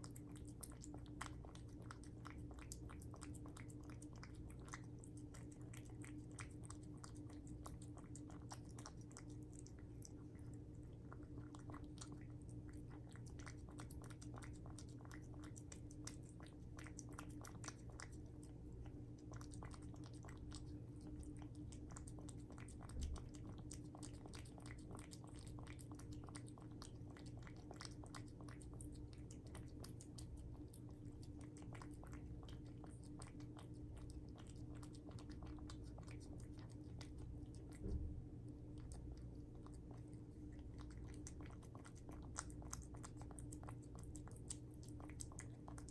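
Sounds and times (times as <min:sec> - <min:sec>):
cat chewing clicks: 0:00.0 - 0:45.9
steady low hum: 0:00.0 - 0:45.9.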